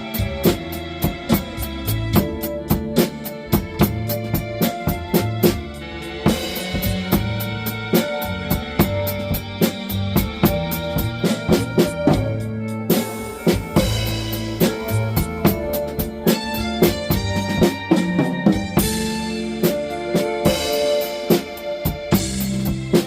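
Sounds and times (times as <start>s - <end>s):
backing track with bass and chords: 0.0s - 23.0s
drum kit playing blues groove: 0.0s - 23.0s.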